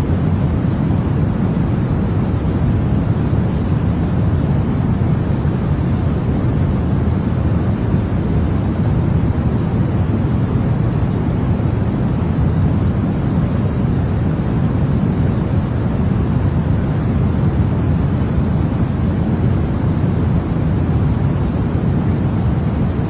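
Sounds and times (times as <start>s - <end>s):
deep white noise: 0.0s - 23.0s.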